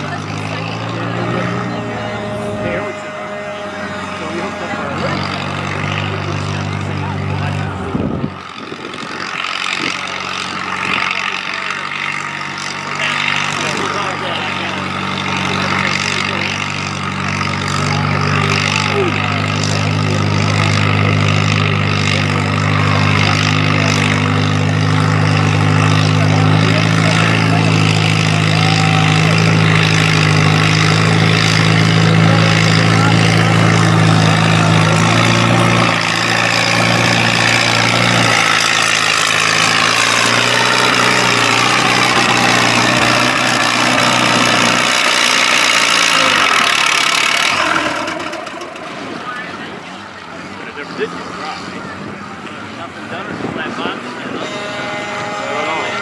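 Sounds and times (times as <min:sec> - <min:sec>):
tractor engine working hard: 0:00.0 - 0:56.0.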